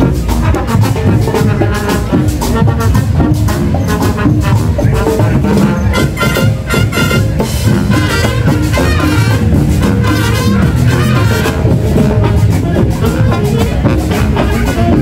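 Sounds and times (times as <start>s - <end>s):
brass instruments playing tune: 0.0s - 15.0s
marching drums beating: 0.0s - 15.0s.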